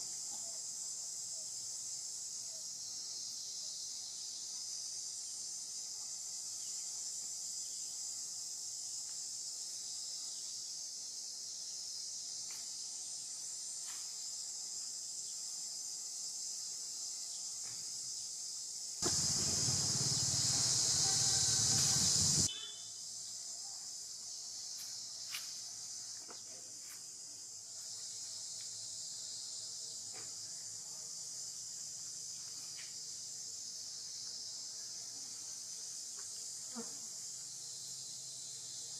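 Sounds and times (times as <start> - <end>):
insects buzzing shrill: 0.0 - 38.9.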